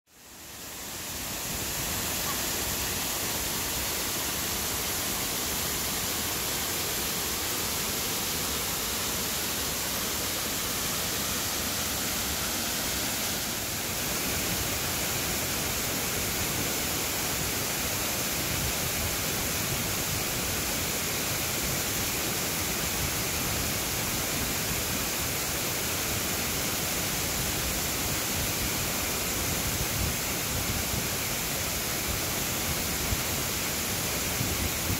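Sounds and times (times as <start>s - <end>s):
waterfall rushing over rocks: 0.1s - 34.9s.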